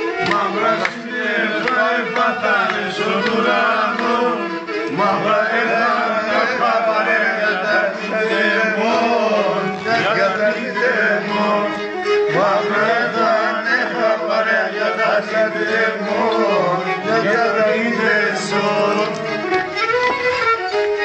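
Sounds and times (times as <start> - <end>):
bowed lyra folk melody: 0.0 - 21.0.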